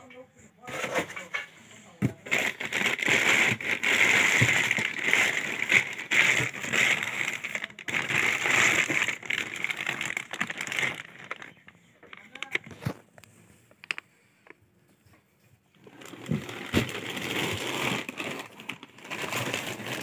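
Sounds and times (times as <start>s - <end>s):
plastic bag crinkling and rustling: 2.0s - 14.6s, 15.8s - 20.0s.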